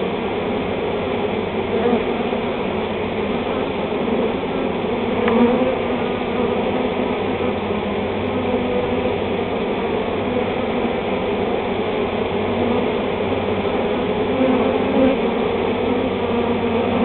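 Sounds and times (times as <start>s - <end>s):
bees buzzing: 0.2s - 17.0s.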